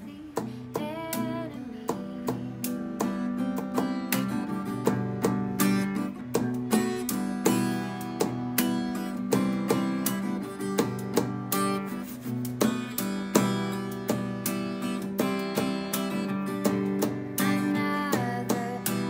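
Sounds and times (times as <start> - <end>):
acoustic guitar strumming: 0.0 - 19.0
percussion taps: 0.3 - 19.0.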